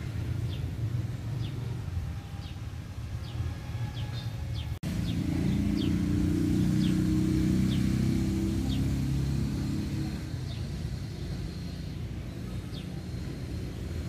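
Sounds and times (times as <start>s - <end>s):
low drone: 0.0s - 14.0s
low outdoor rumble: 0.0s - 14.0s
bird chirping: 0.3s - 14.0s.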